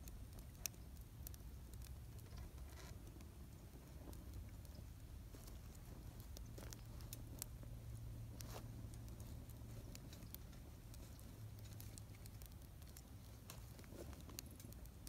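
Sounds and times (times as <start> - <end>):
faint low hum: 0.0 - 15.0
twig fire crackling: 0.0 - 15.0.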